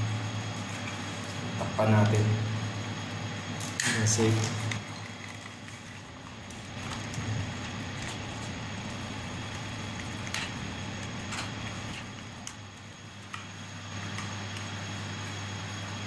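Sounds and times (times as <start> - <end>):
water pump motor hum: 0.0 - 16.0.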